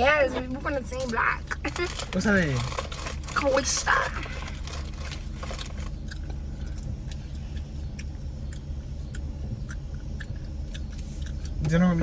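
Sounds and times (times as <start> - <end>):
car idling: 0.0 - 12.0.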